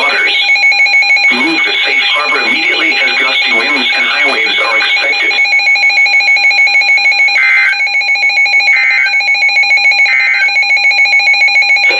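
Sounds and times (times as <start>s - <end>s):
data burst tones: 0.0s - 11.9s
weather radio alarm beeping: 0.0s - 11.9s.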